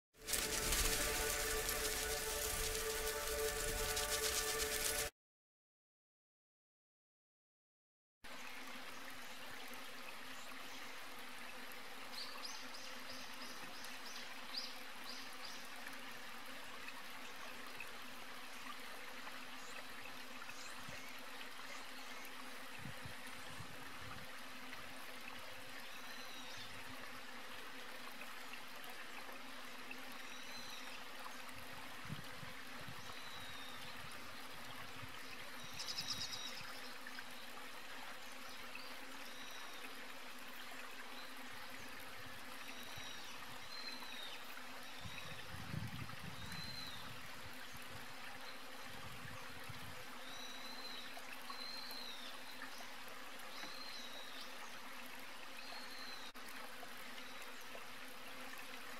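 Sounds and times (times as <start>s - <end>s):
running water hiss: 0.2s - 5.1s, 8.8s - 58.9s.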